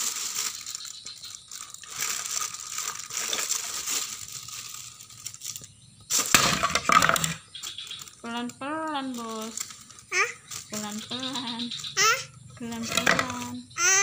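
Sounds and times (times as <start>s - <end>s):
plastic bag crinkling: 0.0s - 14.0s
plastic toys clattering: 0.0s - 14.0s.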